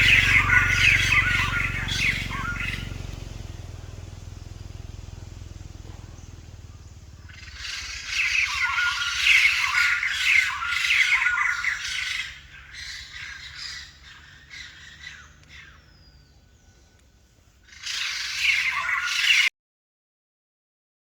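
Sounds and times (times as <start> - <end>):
bird harsh chattering calls: 0.0 - 19.5.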